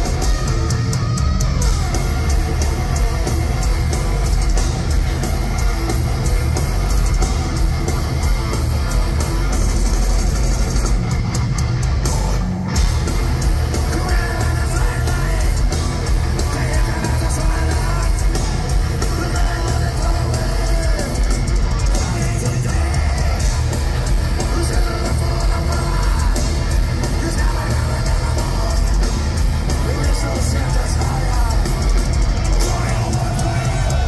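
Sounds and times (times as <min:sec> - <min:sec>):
distorted electric guitars: 0:00.0 - 0:34.0
drum kit: 0:00.0 - 0:34.0.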